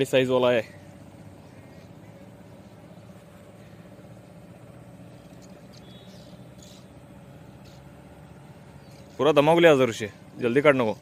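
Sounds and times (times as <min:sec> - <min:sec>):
faint engine hum: 0:00.0 - 0:11.0.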